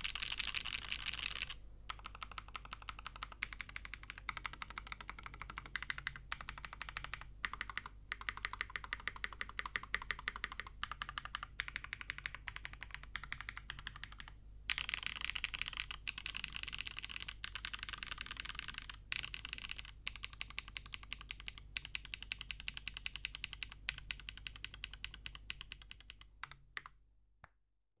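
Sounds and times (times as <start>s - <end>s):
mechanical keyboard typing: 0.0s - 26.9s.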